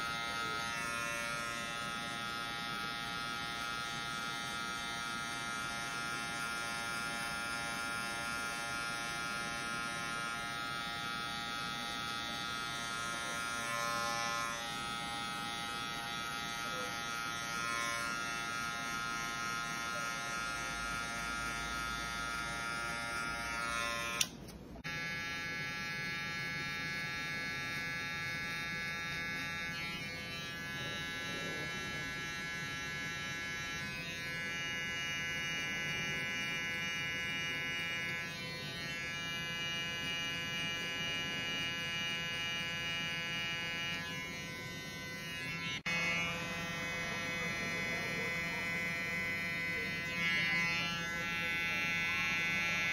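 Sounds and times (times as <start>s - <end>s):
electric hair clippers buzzing: 0.0s - 52.9s.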